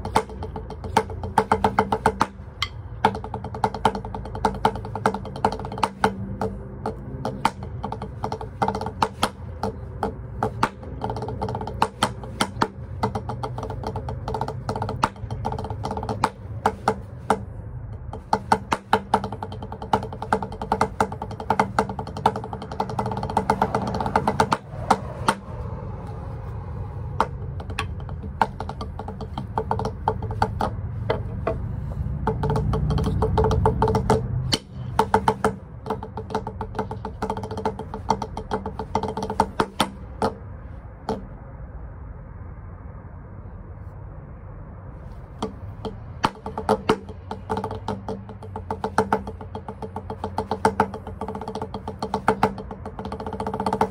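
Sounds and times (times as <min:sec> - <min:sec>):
drumsticks tapping practice pad: 0:00.0 - 0:41.4, 0:45.4 - 0:53.9.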